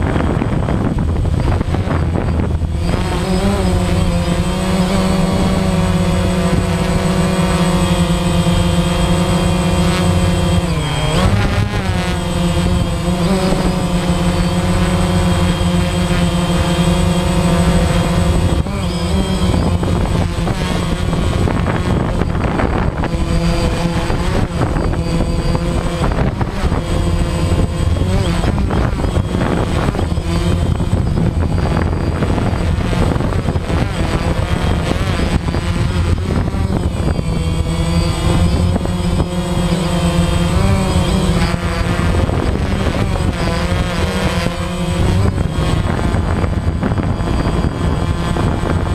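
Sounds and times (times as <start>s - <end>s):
drone propellers whining: 0.0s - 48.9s.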